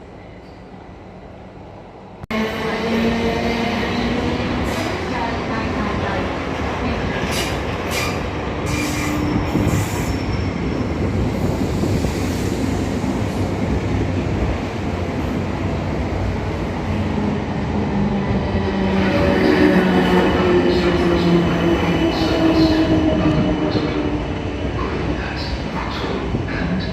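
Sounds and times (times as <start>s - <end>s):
train wheels rumbling on rails: 2.4s - 26.9s.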